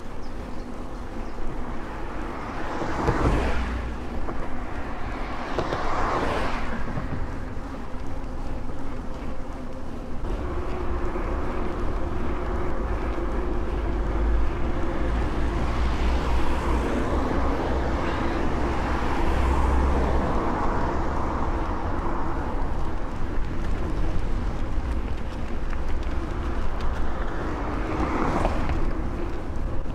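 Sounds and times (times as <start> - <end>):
bike tyres rumbling on pavement: 0.0 - 29.9
road traffic: 0.0 - 29.9.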